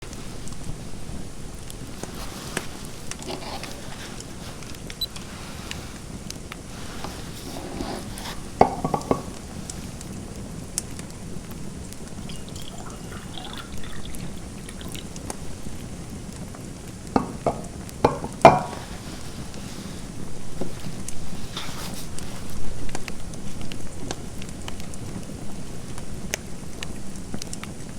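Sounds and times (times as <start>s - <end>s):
fireplace fire crackling: 0.0s - 27.9s.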